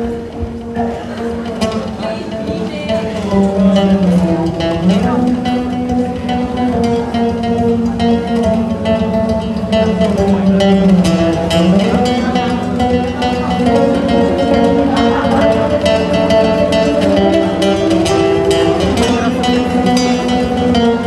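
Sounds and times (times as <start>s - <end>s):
acoustic band playing: 0.0s - 21.0s
acoustic guitars picking: 0.0s - 21.0s.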